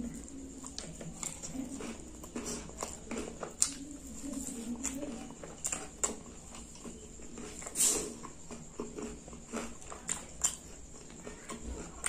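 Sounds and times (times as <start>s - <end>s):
chewing with wet smacks: 0.0s - 12.0s.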